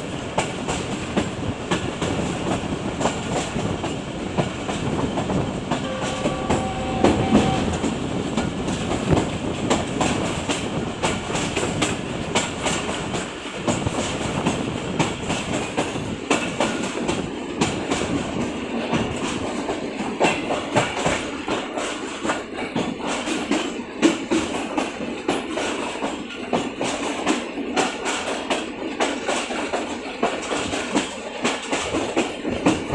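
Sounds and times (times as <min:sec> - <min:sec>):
train running on track: 0:00.0 - 0:32.9.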